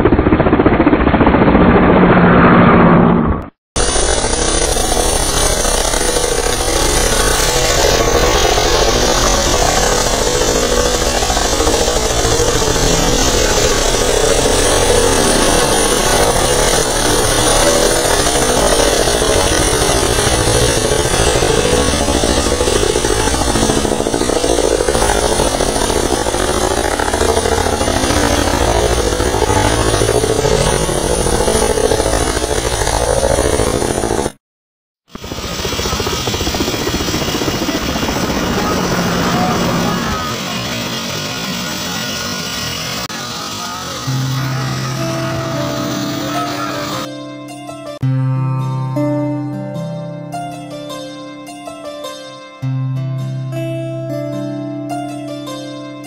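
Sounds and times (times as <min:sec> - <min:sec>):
helicopter rotor and turbine: 0:00.0 - 0:34.4, 0:35.1 - 0:47.1.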